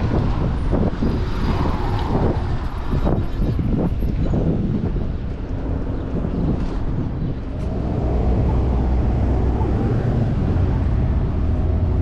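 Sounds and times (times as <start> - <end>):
city street traffic rumble: 0.0 - 12.0
vehicle engine drone: 0.0 - 12.0.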